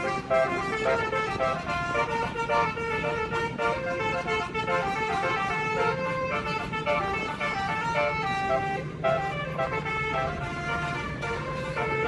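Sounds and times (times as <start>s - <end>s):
multi-tone bus horn melody: 0.0s - 12.0s
steady low hum: 0.0s - 12.0s.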